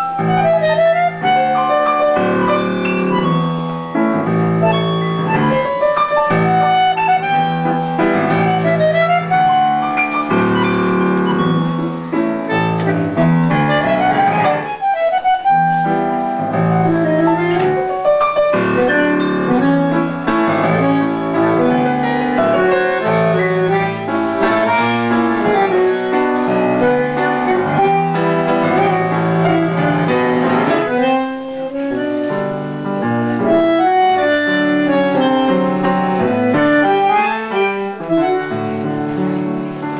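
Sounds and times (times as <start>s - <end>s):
bandoneon notes: 0.0s - 39.9s
piano chords: 0.0s - 39.9s.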